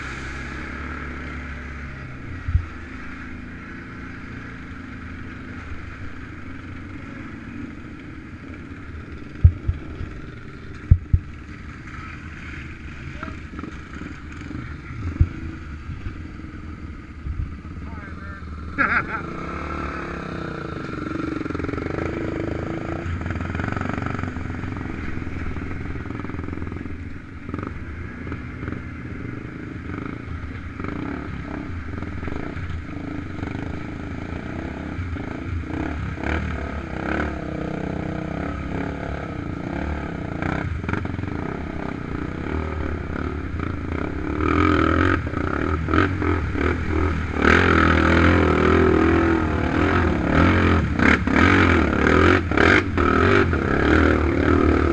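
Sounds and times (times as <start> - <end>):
atv engines running: 0.0 - 54.9.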